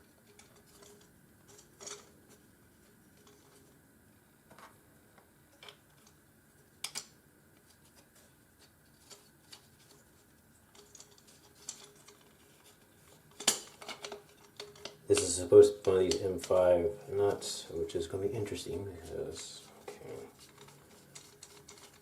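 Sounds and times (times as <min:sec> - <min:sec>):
small parts clicking and tapping: 0:00.0 - 0:03.8, 0:04.5 - 0:06.2, 0:06.8 - 0:16.6, 0:19.6 - 0:22.0.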